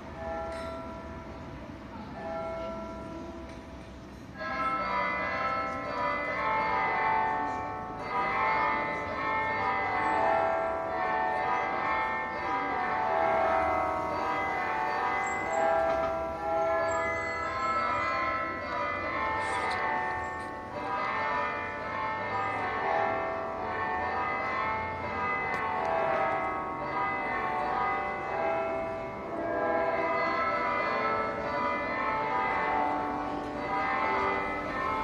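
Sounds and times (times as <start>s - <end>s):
church bells ringing: 0.0s - 35.0s.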